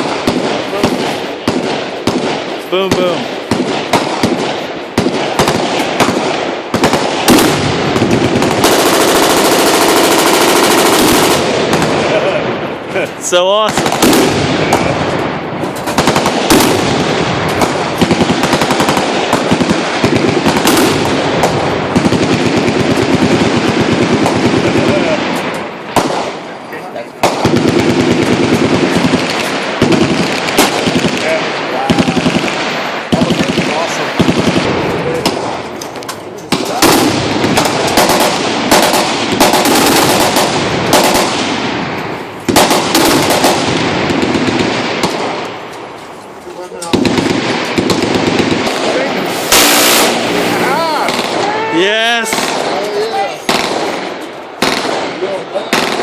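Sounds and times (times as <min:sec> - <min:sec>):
machine guns firing full-auto: 0:00.0 - 0:26.5, 0:27.2 - 0:35.7, 0:36.5 - 0:45.7, 0:46.9 - 0:56.0
heavy bangs: 0:00.0 - 0:56.0.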